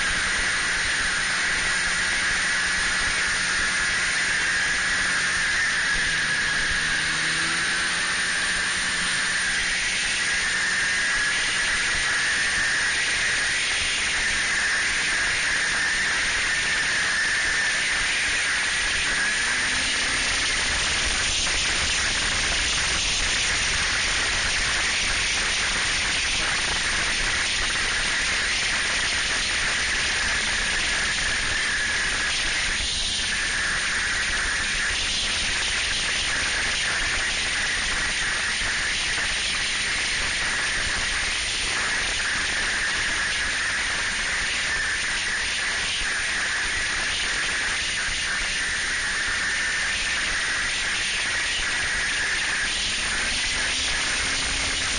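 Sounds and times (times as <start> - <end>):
snowmobile running at speed: 0.0 - 54.9.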